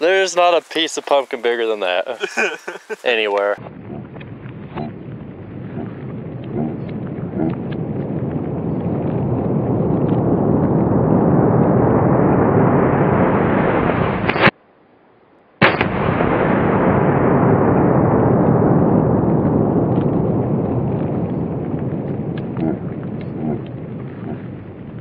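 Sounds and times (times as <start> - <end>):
sharp explosion crack: 3.1 - 14.6, 15.6 - 25.0
low explosion rumble: 3.2 - 14.6, 15.6 - 25.0.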